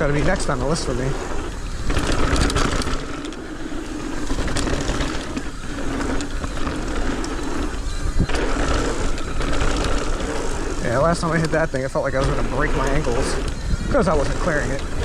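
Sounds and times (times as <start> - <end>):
bike rattling: 0.0 - 15.0
bike tyre noise on dirt: 0.0 - 15.0
wind on microphone: 0.0 - 15.0.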